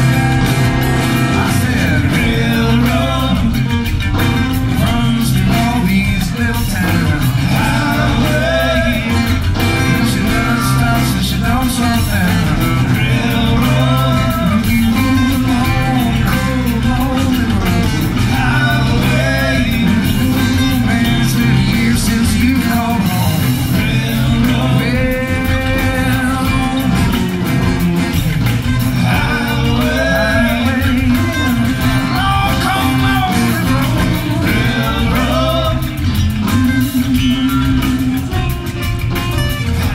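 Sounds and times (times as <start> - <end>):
acoustic guitars strumming: 0.0 - 39.9
drums: 0.0 - 39.9
electric bass: 0.0 - 39.9
organ: 0.0 - 39.9
person singing: 1.0 - 28.1, 29.0 - 38.8.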